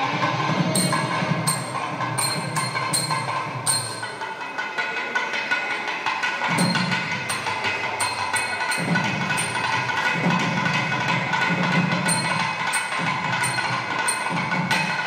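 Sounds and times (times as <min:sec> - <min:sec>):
fast drumming: 0:00.2 - 0:15.0.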